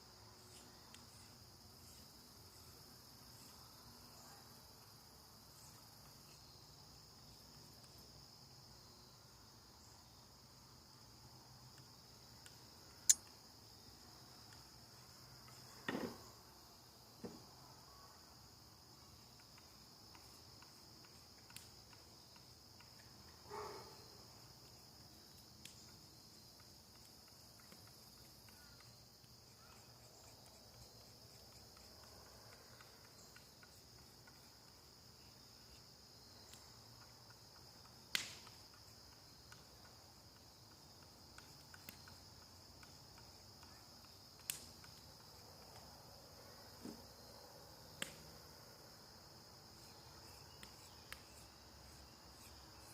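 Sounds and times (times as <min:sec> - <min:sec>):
crickets trilling: 0:00.0 - 0:52.9.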